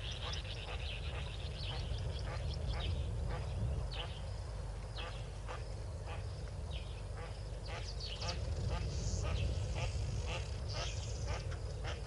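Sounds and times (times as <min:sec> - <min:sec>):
ducklings peeping: 0:00.0 - 0:12.0
steady low rumble: 0:00.0 - 0:12.0.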